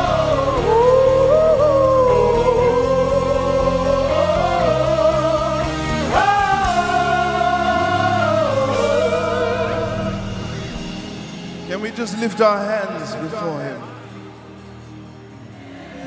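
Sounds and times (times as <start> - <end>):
band accompaniment: 0.0 - 15.4
gospel lead melody: 0.0 - 16.0.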